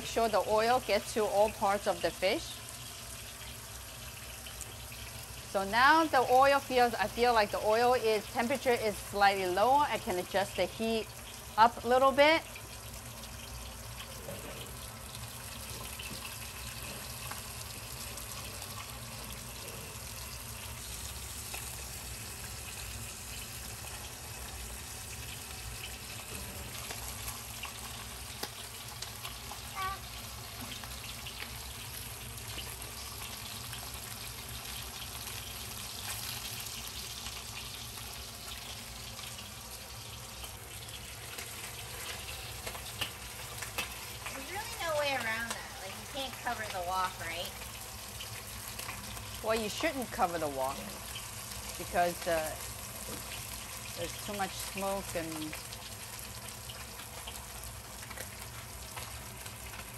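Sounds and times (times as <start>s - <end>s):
oil sizzling in a wok: 0.0s - 59.9s.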